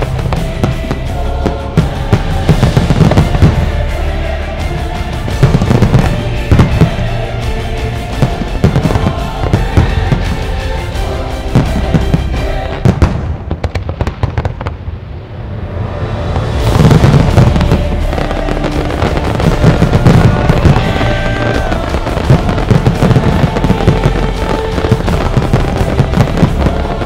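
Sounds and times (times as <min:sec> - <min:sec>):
music playing: 0:00.0 - 0:14.4, 0:15.0 - 0:27.0
fireworks bursting: 0:00.0 - 0:15.1, 0:16.1 - 0:27.0.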